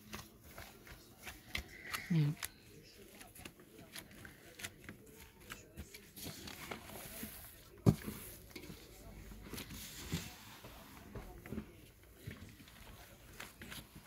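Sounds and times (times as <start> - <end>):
hands kneading sticky dough: 0.0 - 14.0.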